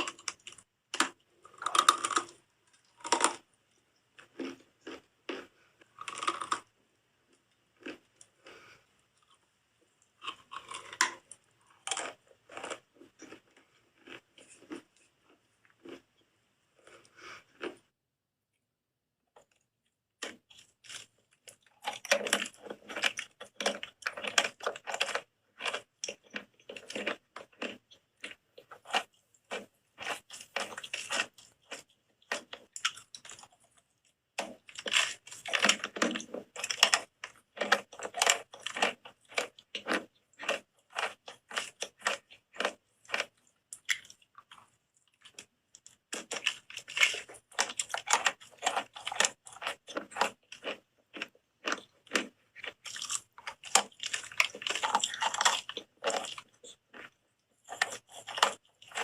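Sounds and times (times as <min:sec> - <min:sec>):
crunching and chewing soap: 0:00.0 - 0:18.0, 0:19.3 - 0:59.0.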